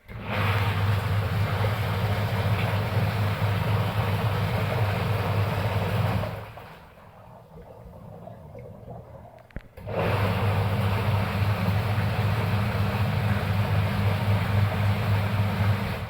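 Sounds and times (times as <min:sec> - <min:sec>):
washing machine motor running: 0:00.0 - 0:06.9, 0:09.8 - 0:16.0.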